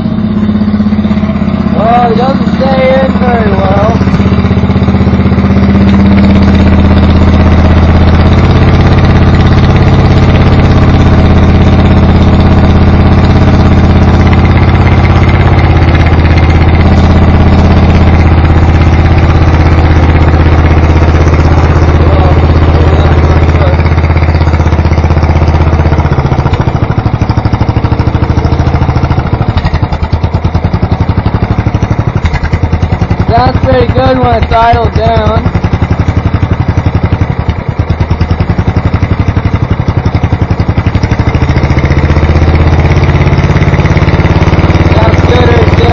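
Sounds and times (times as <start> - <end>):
lawn mower engine revving: 0.0 - 45.9.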